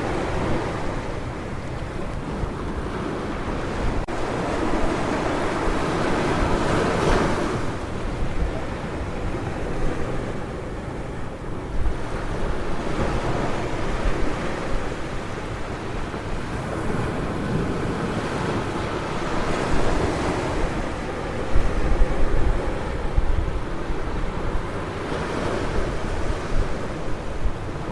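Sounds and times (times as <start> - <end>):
ocean surf breaking: 0.0 - 27.9
wind rumbling on microphone: 0.0 - 27.9.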